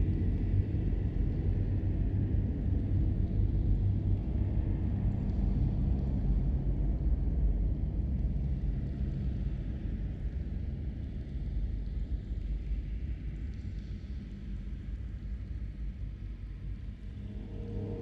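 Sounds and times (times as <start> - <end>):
low rumble of cave air: 0.0 - 18.0.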